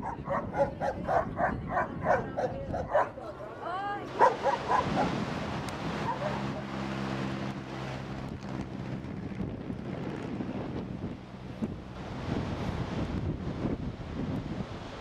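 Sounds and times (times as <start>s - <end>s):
wind buffeting microphone: 0.0s - 15.0s
low engine hum: 2.9s - 15.0s.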